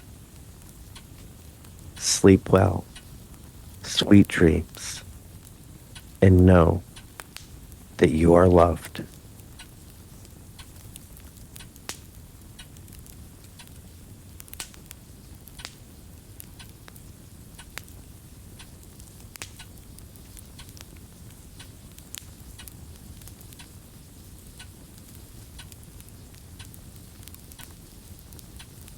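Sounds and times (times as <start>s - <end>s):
fire crackling and popping: 0.0s - 28.9s
low rumble of fire: 0.0s - 28.9s.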